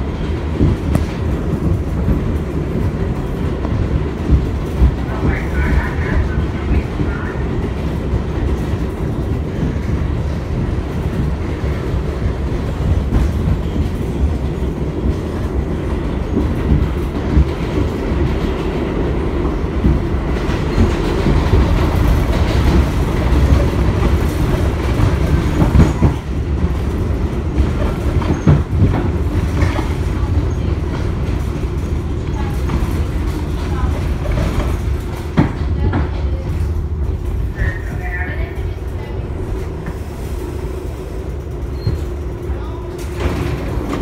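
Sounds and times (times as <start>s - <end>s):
subway train rumbling: 0.0s - 44.0s.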